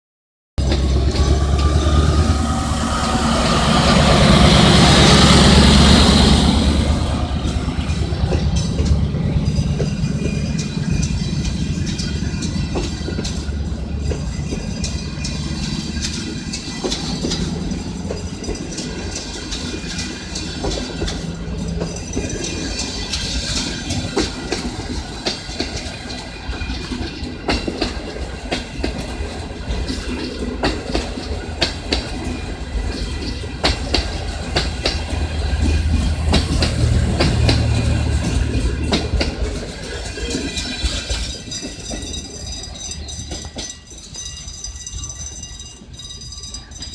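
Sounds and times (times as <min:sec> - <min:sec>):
locomotive engine: 0:00.6 - 0:46.9
train wheels clacking over rail joints: 0:00.6 - 0:46.9.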